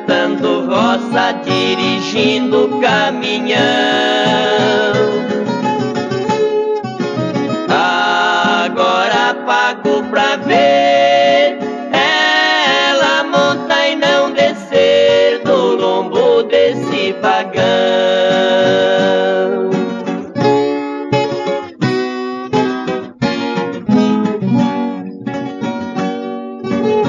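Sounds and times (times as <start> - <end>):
acoustic guitars plucking and strumming: 0.0 - 27.0.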